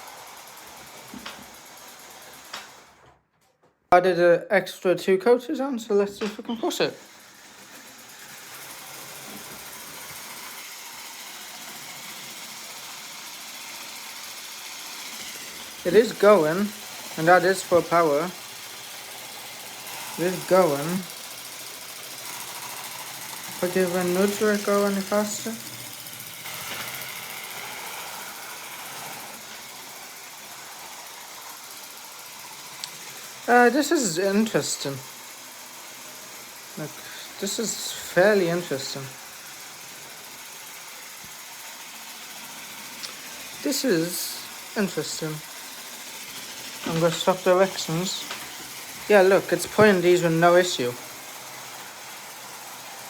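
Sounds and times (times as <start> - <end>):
toy train motor whirring: 0.0 - 3.4, 5.9 - 53.0.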